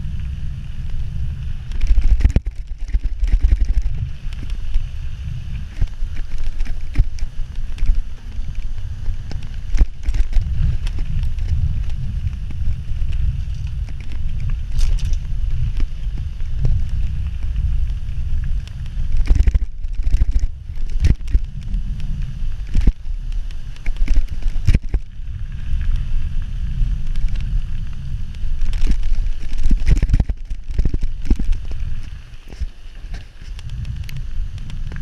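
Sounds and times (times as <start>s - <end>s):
bike rattling on gravel: 0.0s - 35.0s
wind buffeting microphone: 0.0s - 35.0s.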